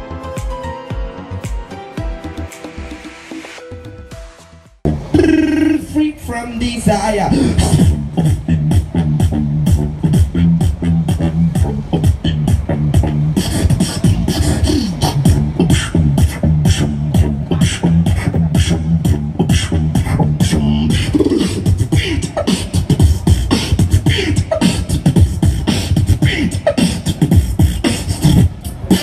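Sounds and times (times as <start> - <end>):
beatboxing through speaker: 4.8 - 29.0
deep bass tones: 4.8 - 29.0.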